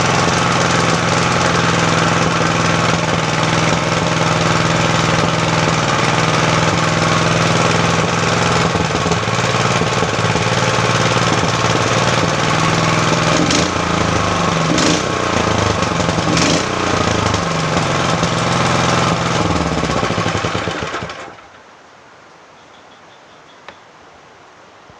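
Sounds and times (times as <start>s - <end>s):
engine running: 0.0s - 21.6s.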